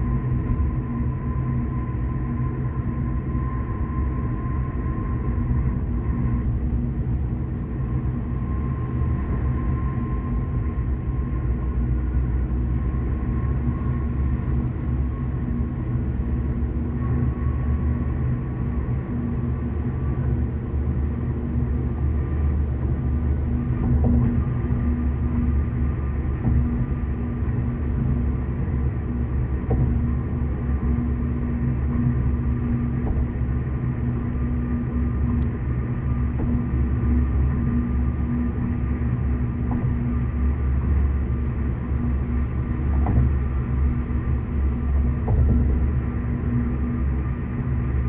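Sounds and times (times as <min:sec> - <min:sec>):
car road and engine rumble: 0:00.0 - 0:48.0
faint steady whine: 0:00.0 - 0:48.0.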